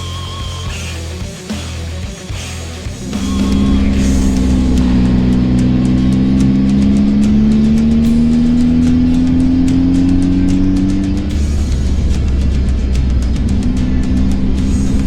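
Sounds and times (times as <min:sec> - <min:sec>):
rock music: 0:00.0 - 0:15.0
motorcycle engine accelerating: 0:00.7 - 0:15.0.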